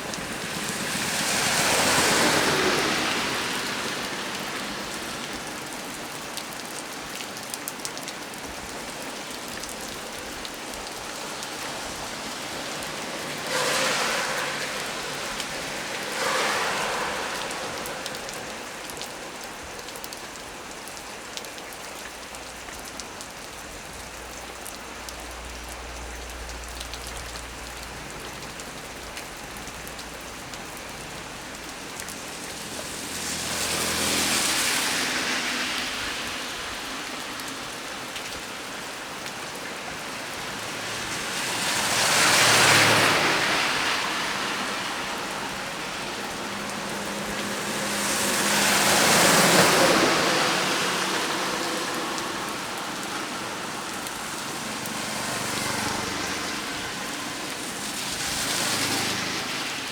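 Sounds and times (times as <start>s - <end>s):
heavy rain on tree leaves: 0.0s - 59.9s.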